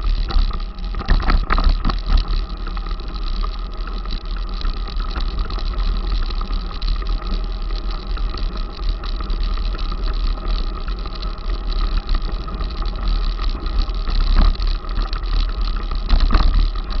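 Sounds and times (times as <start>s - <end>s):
wind rumbling on microphone: 0.0s - 7.6s, 8.2s - 17.0s
bike rattling and knocking: 0.0s - 17.0s.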